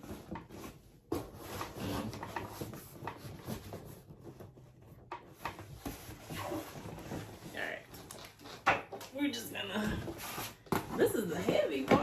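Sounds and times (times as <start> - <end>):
handling rustling and rubbing: 0.0 - 12.0.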